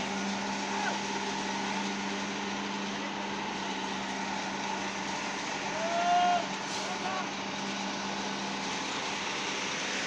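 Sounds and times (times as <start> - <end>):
concrete-pouring machinery hum: 0.0 - 10.0.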